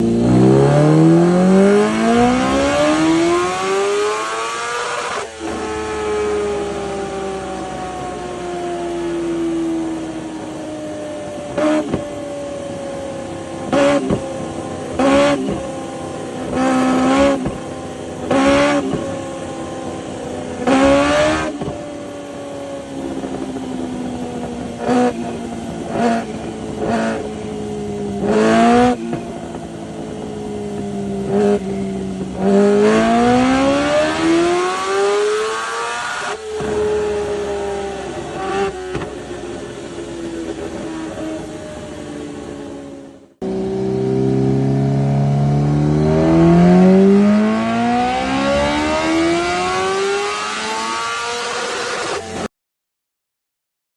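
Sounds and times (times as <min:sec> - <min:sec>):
motorcycle engine idling and revving: 0:00.0 - 0:52.5.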